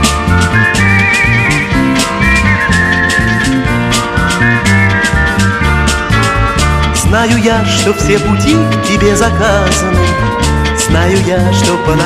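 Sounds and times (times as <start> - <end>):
drums and bass beat: 0.0 - 12.0
high lead melody with vibrato: 0.0 - 12.0.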